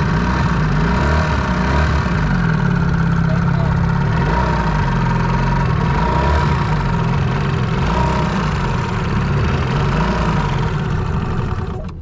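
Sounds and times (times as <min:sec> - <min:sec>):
small outboard motor running: 0:00.0 - 0:12.0.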